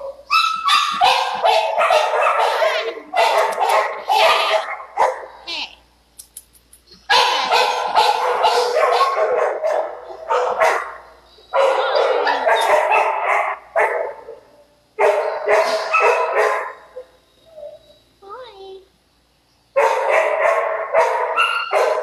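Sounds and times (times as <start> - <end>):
dogs barking loudly: 0.0 - 5.4, 7.0 - 17.1, 19.8 - 22.0.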